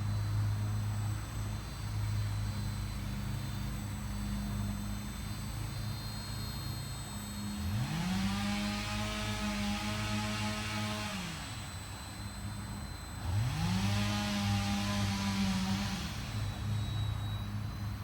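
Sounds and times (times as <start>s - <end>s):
electric motor hum: 0.0s - 18.0s
motor whine rising in pitch: 0.0s - 18.0s.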